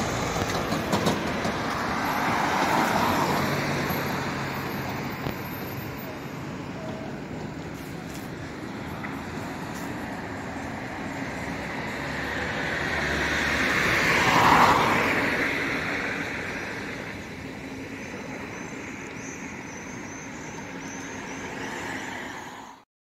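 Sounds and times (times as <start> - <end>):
trolleybus passing by: 0.0 - 22.8.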